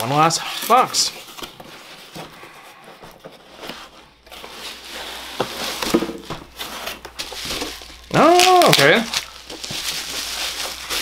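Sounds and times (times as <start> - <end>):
bubble wrap rustling: 0.0 - 11.0
cardboard flaps rustling: 0.7 - 11.0.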